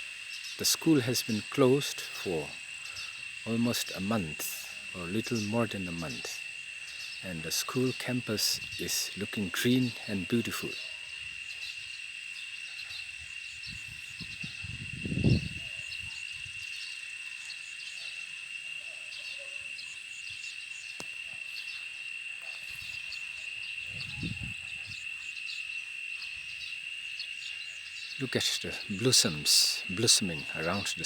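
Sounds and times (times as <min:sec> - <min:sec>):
crickets trilling: 0:00.0 - 0:31.0
faint bird chirps: 0:04.8 - 0:31.0.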